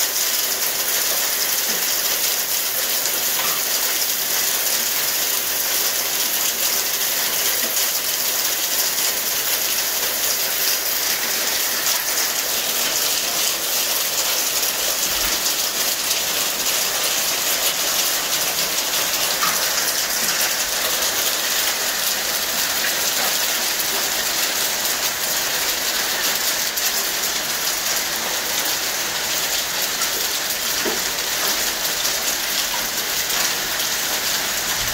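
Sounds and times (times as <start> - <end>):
hail rattling on patio and glass: 0.1 - 34.9.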